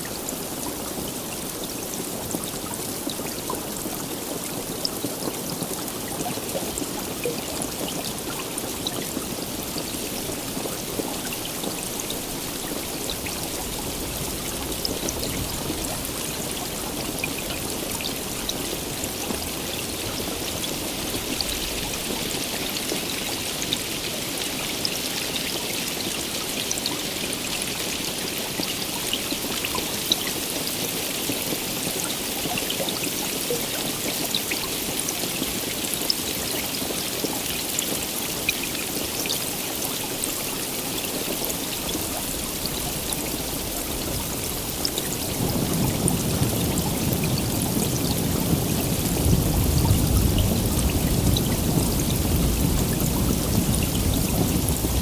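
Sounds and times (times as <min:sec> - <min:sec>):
heavy rain: 0:00.0 - 0:55.0
raindrops ticking on a surface: 0:00.0 - 0:55.0.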